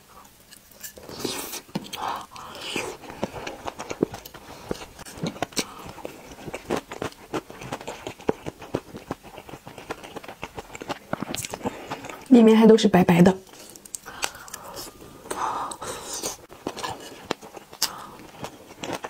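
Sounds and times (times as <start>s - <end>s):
person chewing: 0.2s - 12.3s, 13.4s - 19.0s.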